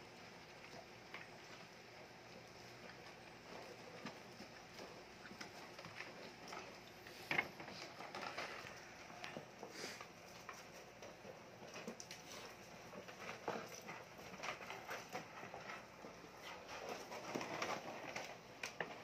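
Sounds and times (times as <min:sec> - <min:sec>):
puppies chewing: 0:00.0 - 0:19.0
clicks of bowls and paws: 0:00.2 - 0:19.0.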